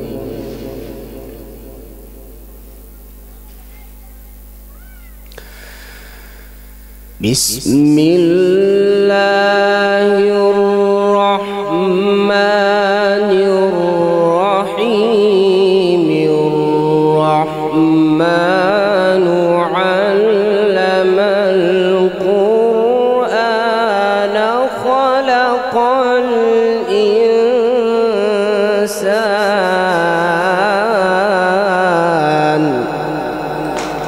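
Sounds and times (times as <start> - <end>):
man reciting melodically: 0.0 - 1.8, 7.1 - 34.0.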